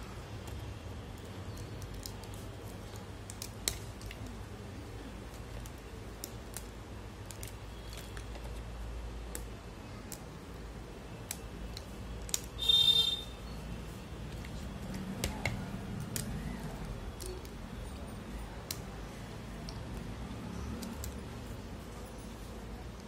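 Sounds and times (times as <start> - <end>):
dry clay cracking and crunching: 0.0 - 13.0, 14.1 - 23.0.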